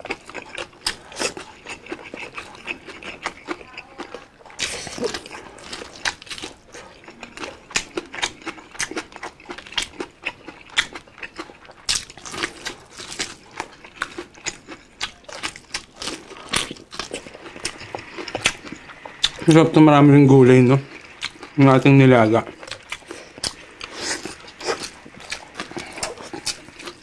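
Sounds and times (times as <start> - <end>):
people chewing food: 0.0 - 27.0.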